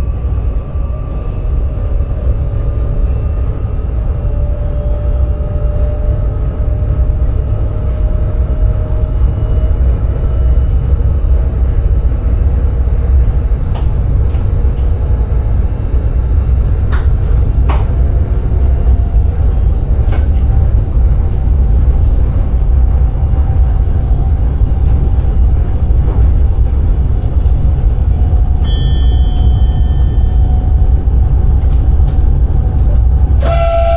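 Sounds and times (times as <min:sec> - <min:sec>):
electric train rumbling: 0:00.0 - 0:33.9.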